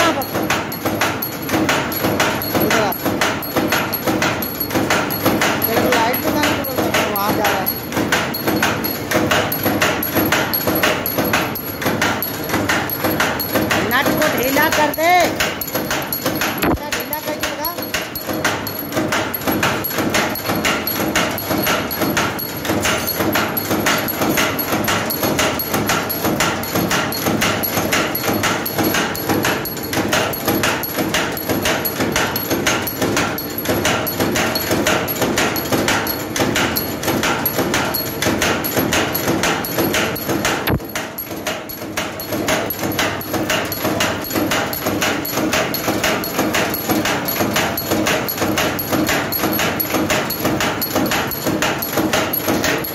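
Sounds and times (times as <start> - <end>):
wire cutting machine clattering: 0.0 - 52.9.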